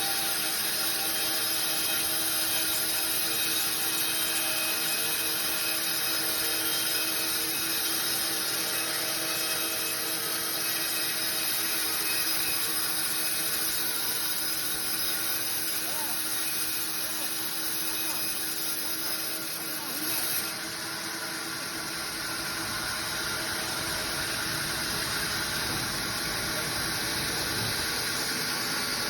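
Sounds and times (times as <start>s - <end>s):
saw cutting timber: 0.0s - 29.0s.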